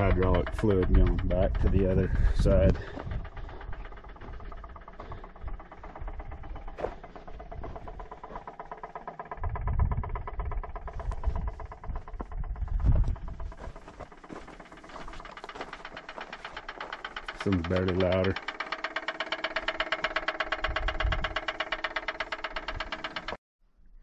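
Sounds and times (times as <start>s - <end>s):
low rumbles: 0.0s - 23.4s
rapid even knocking: 0.0s - 23.4s.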